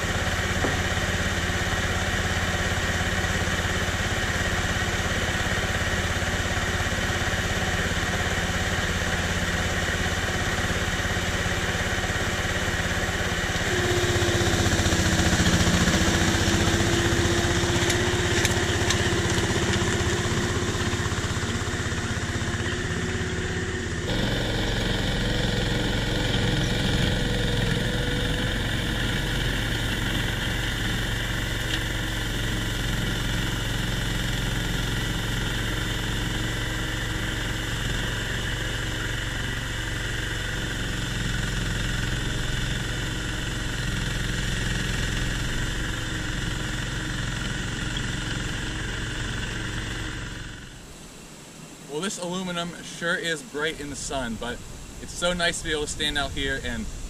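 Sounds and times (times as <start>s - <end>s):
tank engine running: 0.0s - 51.0s, 52.1s - 57.0s
steady whine: 0.0s - 57.0s.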